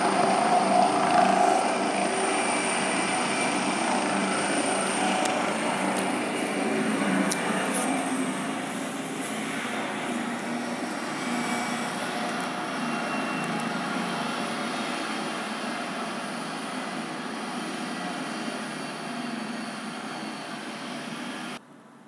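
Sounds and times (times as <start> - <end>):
helicopter turbine and rotor: 0.0 - 21.6.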